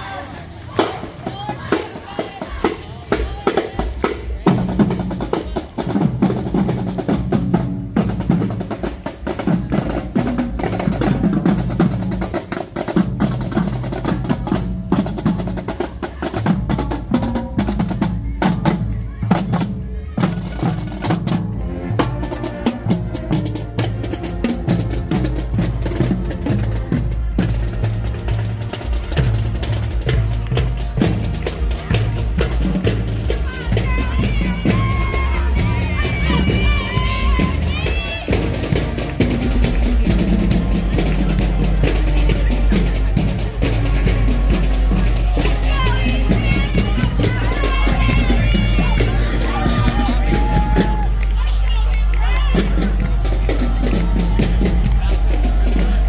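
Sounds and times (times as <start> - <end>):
band instruments playing: 0.0 - 56.0
bass drum: 0.8 - 56.0.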